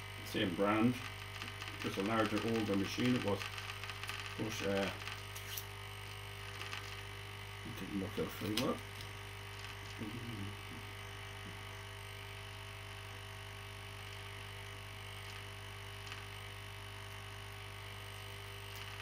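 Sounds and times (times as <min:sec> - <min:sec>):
air pump low buzz: 0:00.0 - 0:19.0.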